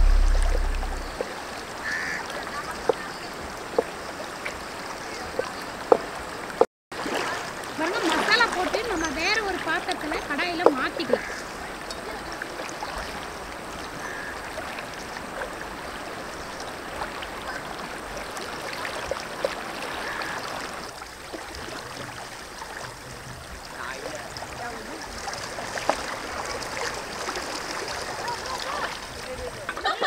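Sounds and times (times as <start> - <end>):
river water flowing around rocks: 0.0 - 30.0.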